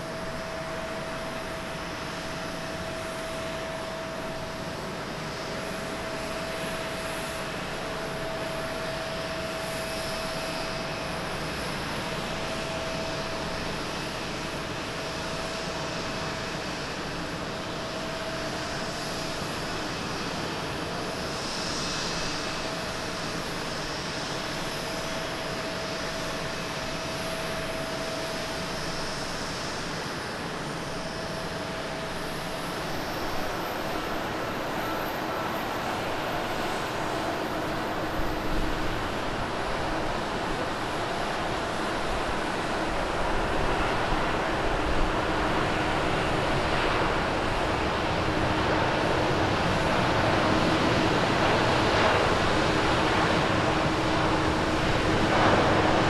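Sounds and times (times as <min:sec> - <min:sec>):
jet engine noise: 0:00.0 - 0:56.0
thin steady whine: 0:00.0 - 0:56.0.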